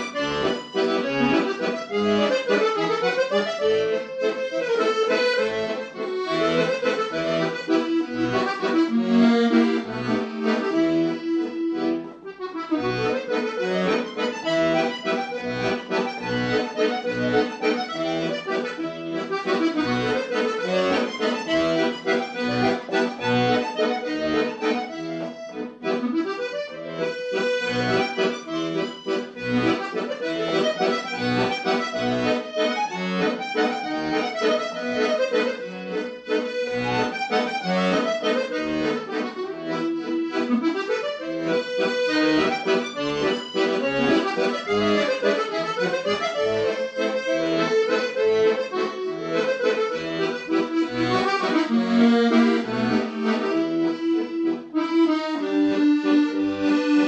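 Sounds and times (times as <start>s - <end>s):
accordion bass notes pulsing: 0.0s - 57.0s
accordion tune: 0.0s - 57.0s.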